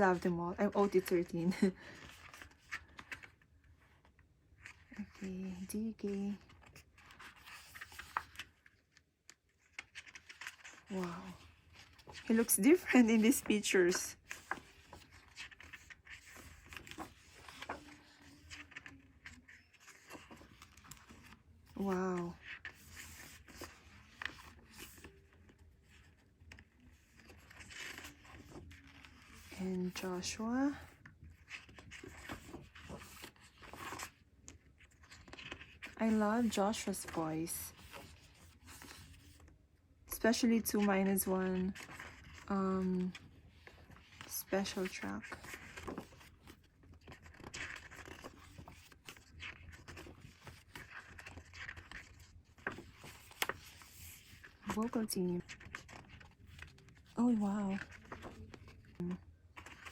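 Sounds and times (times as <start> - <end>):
book pages rustling: 0.0 - 59.9.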